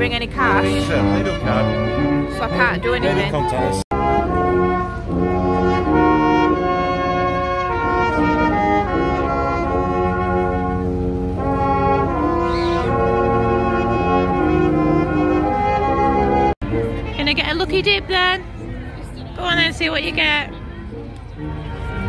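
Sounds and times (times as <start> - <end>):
brass band playing slow tune: 0.0 - 17.3, 18.4 - 22.0.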